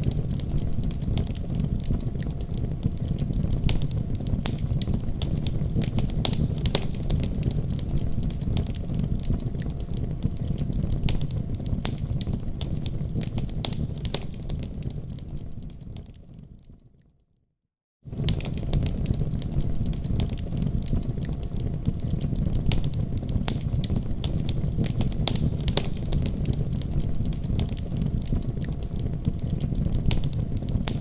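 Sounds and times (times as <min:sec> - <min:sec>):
wood fire crackling and popping: 0:00.0 - 0:16.8, 0:18.1 - 0:31.0.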